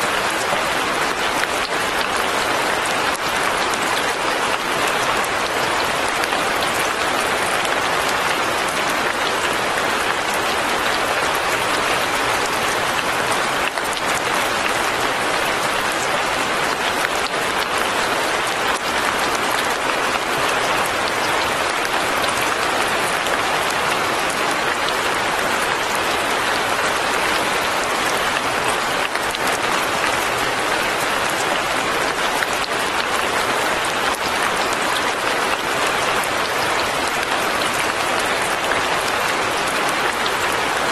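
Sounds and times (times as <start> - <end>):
fine rain falling: 0.0 - 40.9.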